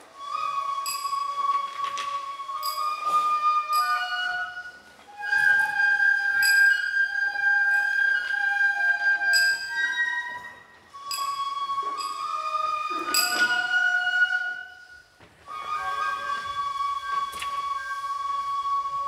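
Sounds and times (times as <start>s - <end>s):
bamboo flute slow melody: 0.0s - 19.0s.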